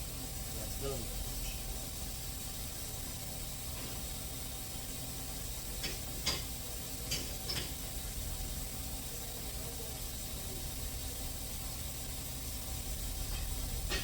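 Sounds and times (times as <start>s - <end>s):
coolant refilling machine hissing: 0.0s - 14.0s.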